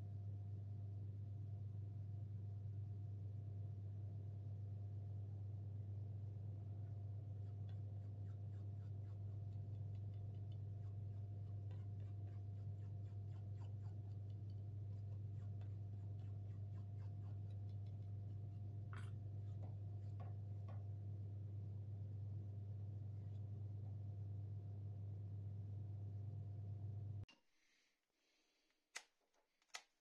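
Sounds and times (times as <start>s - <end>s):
low steady hum: 0.0s - 27.8s.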